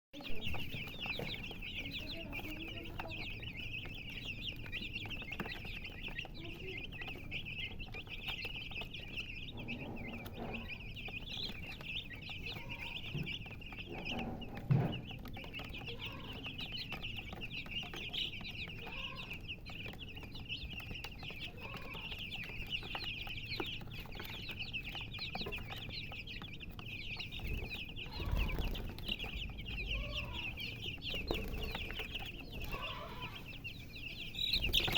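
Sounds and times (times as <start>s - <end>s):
baby chicks peeping: 0.1s - 34.9s
hen clucking: 0.2s - 34.9s.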